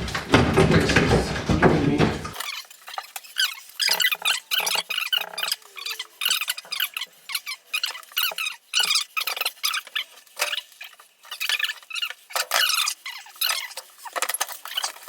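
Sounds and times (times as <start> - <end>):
scraping and squeaking strokes: 0.0 - 15.0.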